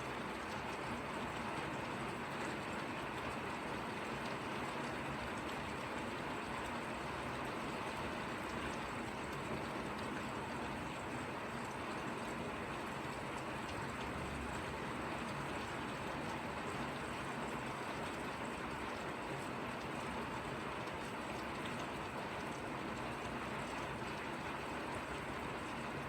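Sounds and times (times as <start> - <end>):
light rain falling: 0.0 - 26.0.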